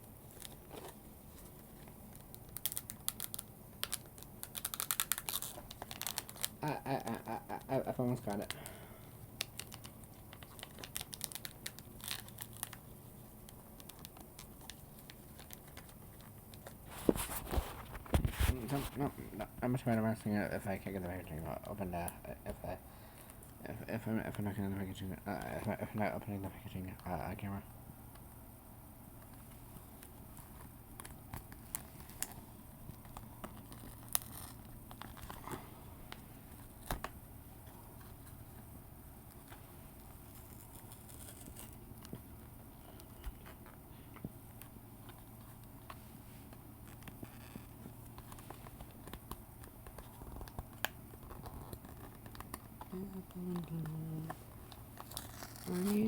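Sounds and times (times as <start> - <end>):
packaging crinkling: 0.1 - 20.0, 29.2 - 56.0.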